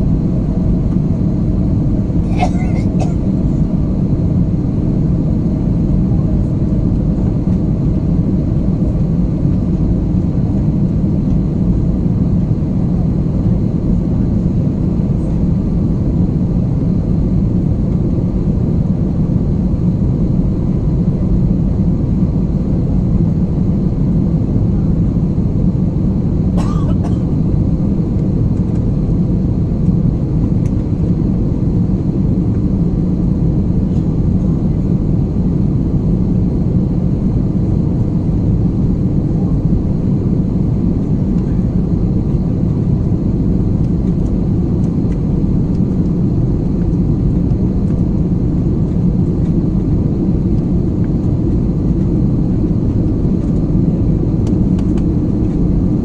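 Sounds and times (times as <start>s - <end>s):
jet airliner cabin rumble: 0.0s - 56.0s.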